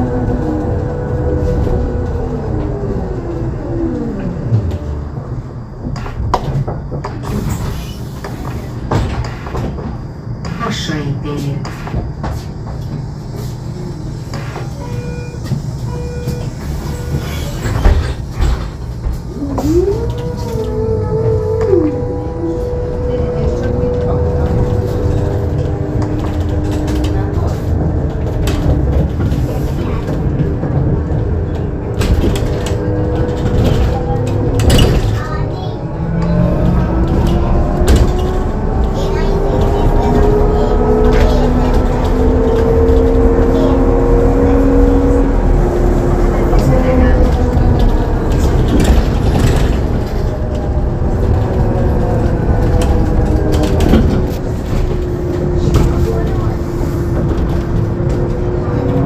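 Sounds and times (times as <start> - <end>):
trolleybus electrical hum: 0.0 - 59.0.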